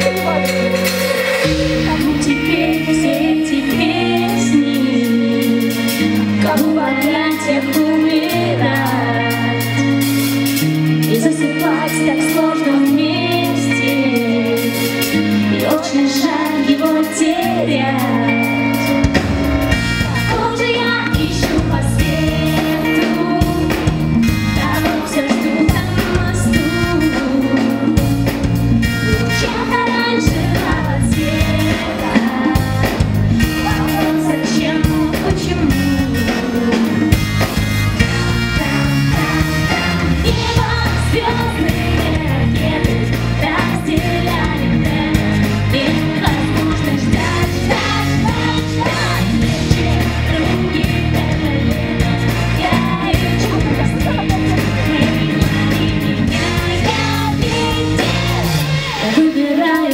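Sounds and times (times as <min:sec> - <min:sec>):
bass guitar: 0:00.0 - 0:59.9
drum kit: 0:00.0 - 0:59.9
guitar: 0:00.0 - 0:59.9
person singing: 0:00.0 - 0:59.9.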